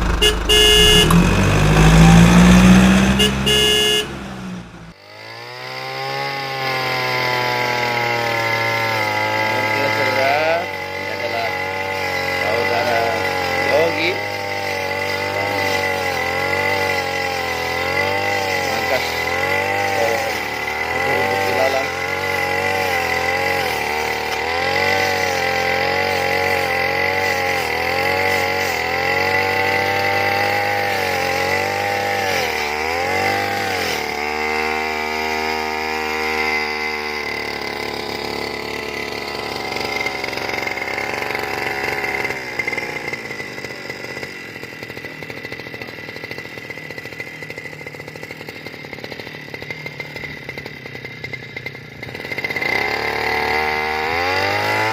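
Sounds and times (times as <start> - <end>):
lawn mower petrol engine: 0.0 - 54.9.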